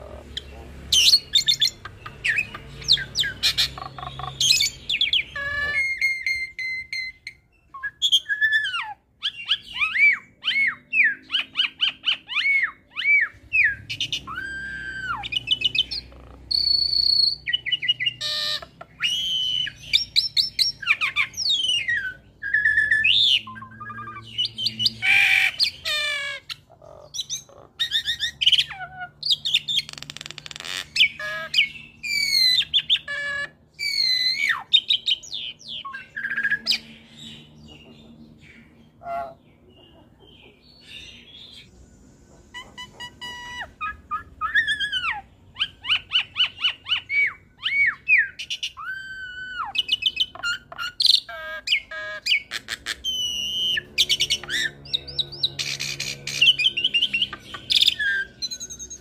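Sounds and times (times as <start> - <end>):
harsh rasping bird calls: 0.0 - 59.0.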